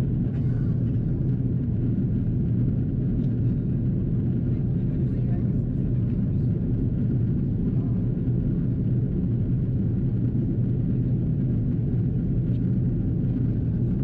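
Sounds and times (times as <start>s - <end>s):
airplane engine noise: 0.0s - 14.0s.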